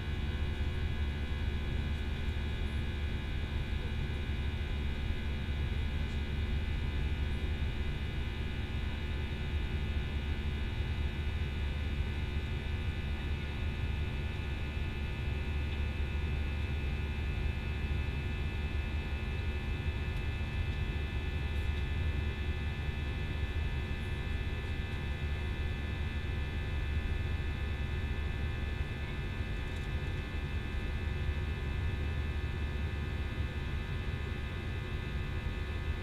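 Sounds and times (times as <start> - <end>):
engine and airflow rumble: 0.0 - 36.0.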